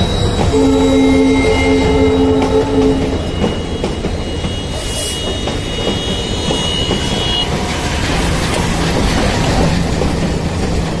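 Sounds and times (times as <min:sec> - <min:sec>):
train coaches rumbling past: 0:00.0 - 0:11.0.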